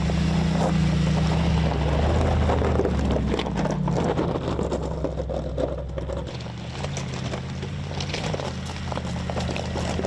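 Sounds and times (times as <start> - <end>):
stones crunching under tyres: 0.0 - 10.0
suv engine at low revs: 0.0 - 10.0.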